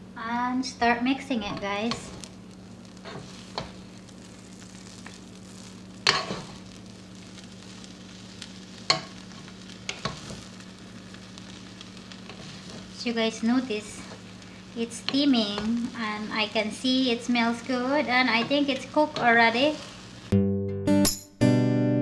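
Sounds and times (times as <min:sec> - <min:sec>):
noodles sizzling in a pan: 0:00.0 - 0:20.3.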